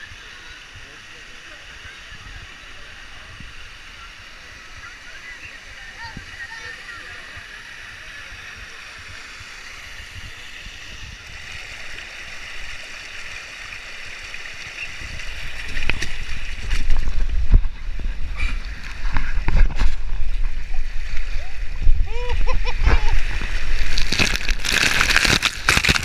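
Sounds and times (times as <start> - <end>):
water rushing down a slide: 0.0 - 26.0.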